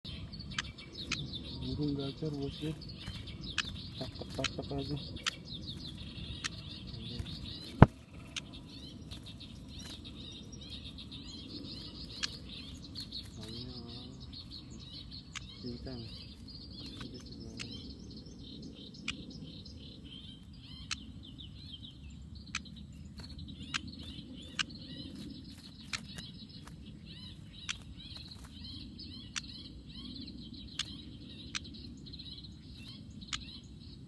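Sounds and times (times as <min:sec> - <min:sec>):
bird chattering chirps: 0:00.1 - 0:34.0
low background rumble: 0:00.1 - 0:34.0.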